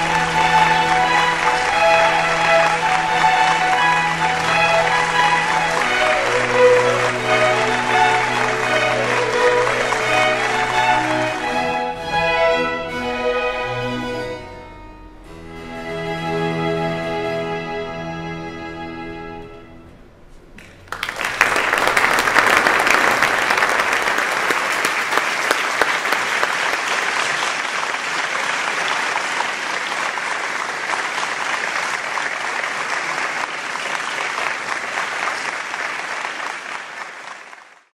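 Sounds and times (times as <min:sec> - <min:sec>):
audience applauding: 0:00.0 - 0:13.4, 0:20.6 - 0:37.9.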